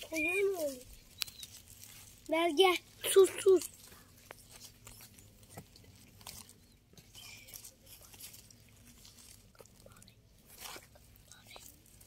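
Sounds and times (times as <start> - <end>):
dry leaves crackling: 0.0 - 12.0
faint low hum: 0.0 - 12.0.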